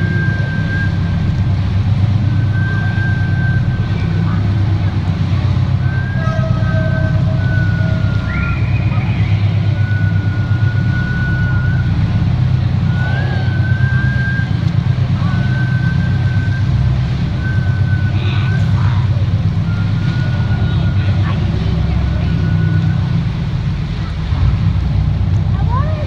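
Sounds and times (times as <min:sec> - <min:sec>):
thin high whine: 0:00.0 - 0:24.2
motorboat engine running: 0:00.0 - 0:26.0.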